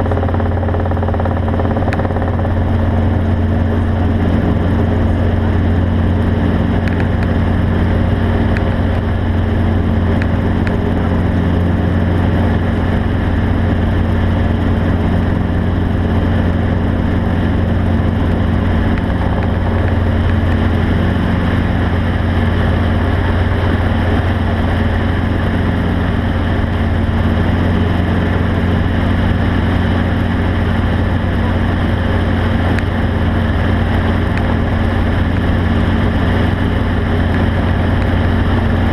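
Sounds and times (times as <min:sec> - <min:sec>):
steady engine drone: 0:00.0 - 0:38.9.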